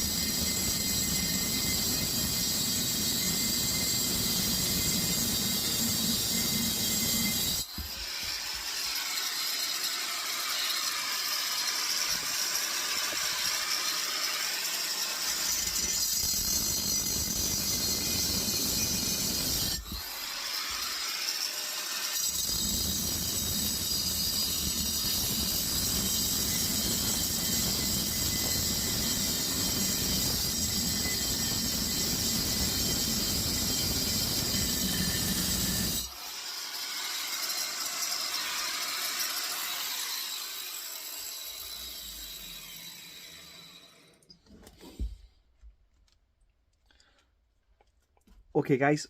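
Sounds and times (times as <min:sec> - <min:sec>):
angle grinder cutting steel: 0:00.0 - 0:44.2.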